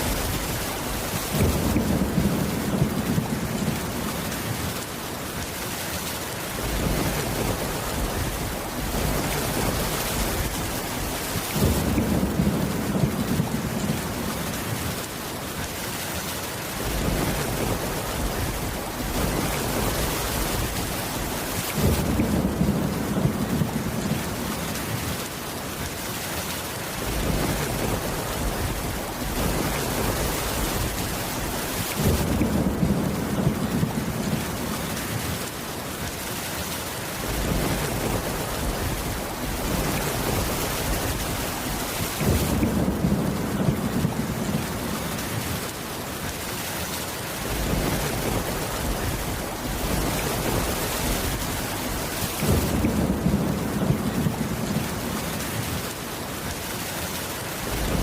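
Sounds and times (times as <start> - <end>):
low thunder rumbling: 0.0 - 4.8, 6.6 - 15.0, 16.8 - 25.2, 27.0 - 35.5, 37.2 - 45.7, 47.4 - 56.0, 57.6 - 58.0
steady rain falling: 0.0 - 58.0.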